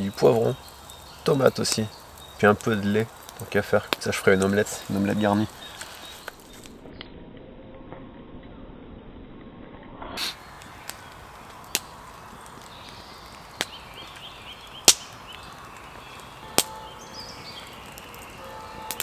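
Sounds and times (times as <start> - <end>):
faint birdsong: 0.0 - 7.1, 10.2 - 19.0
campfire popping: 0.0 - 19.0.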